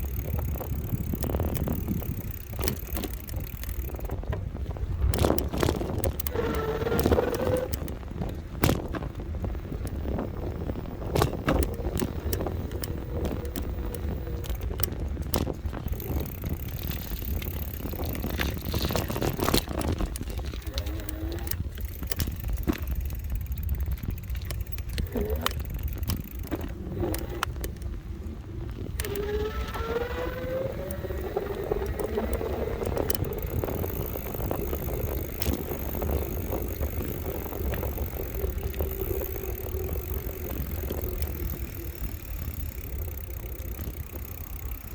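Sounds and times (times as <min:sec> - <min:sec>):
bike rattles and knocks: 0:00.0 - 0:44.9
wind and road rumble: 0:00.0 - 0:44.9
thin motor whine: 0:05.2 - 0:08.0, 0:09.5 - 0:23.5, 0:24.4 - 0:44.9.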